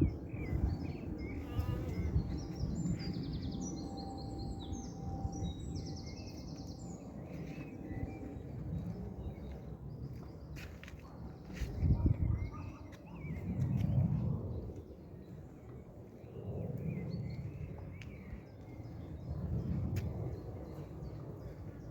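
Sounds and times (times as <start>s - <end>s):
songbirds singing and chirping: 0.0s - 21.9s
steady low rumble: 0.0s - 21.9s.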